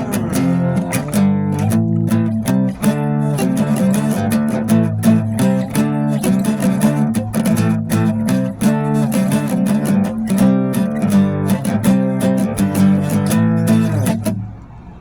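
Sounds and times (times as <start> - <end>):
strummed acoustic guitar chords: 0.0 - 14.6.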